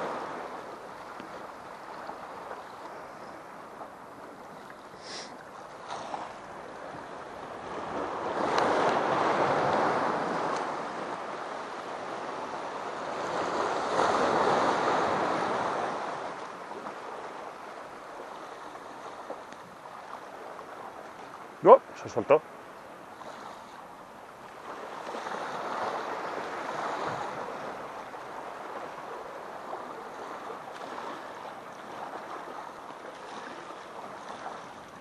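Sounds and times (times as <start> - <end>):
surf washing over rocks: 0.0 - 35.0.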